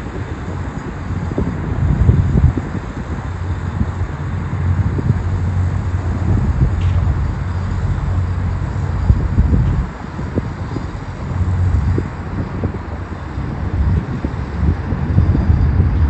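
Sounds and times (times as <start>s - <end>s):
wind buffeting microphone: 0.0s - 16.0s
car road rumble: 0.7s - 16.0s.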